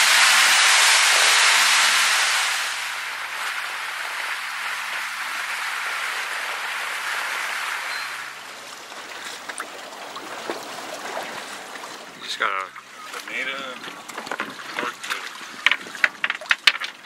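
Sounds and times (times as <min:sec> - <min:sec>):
water rushing around a boat: 0:00.0 - 0:17.0.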